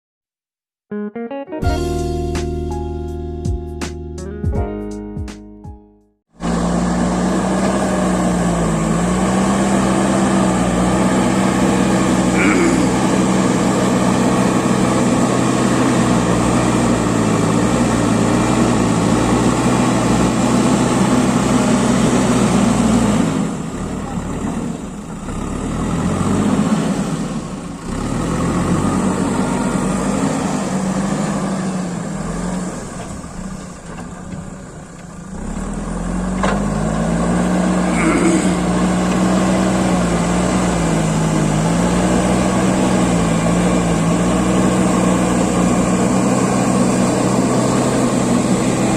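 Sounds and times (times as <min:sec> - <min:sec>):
diesel engine working: 0:06.3 - 0:48.9.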